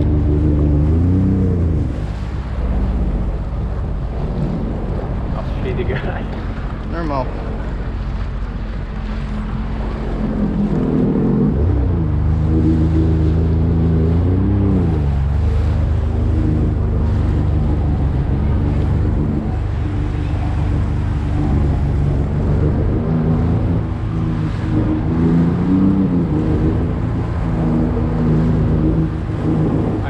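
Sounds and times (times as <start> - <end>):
jet ski engine running: 0.0 - 30.0
water rushing off hull: 0.0 - 30.0.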